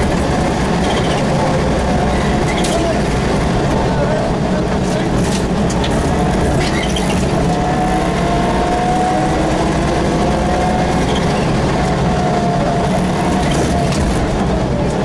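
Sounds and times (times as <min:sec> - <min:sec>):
car engine running hard: 0:00.0 - 0:15.0
road and drivetrain noise: 0:00.0 - 0:15.0.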